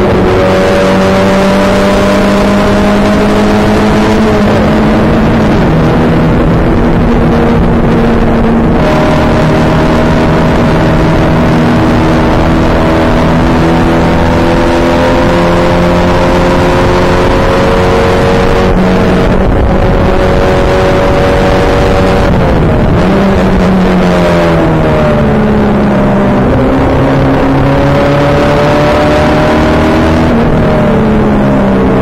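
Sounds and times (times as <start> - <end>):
race car engine running hard: 0.0 - 32.0
wind noise: 0.0 - 32.0.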